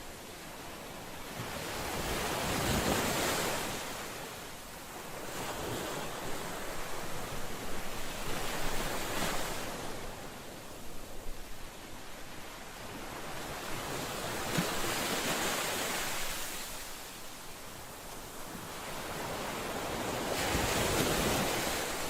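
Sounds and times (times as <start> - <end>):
ocean waves breaking on shore: 0.0 - 22.0.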